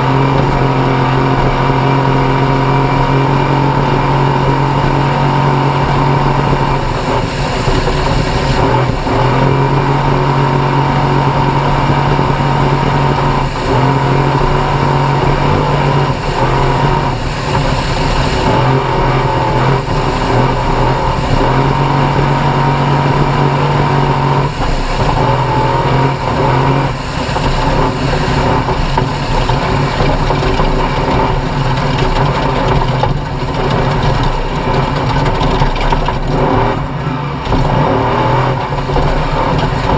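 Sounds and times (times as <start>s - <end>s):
race vehicle engine revving hard: 0.0s - 39.9s.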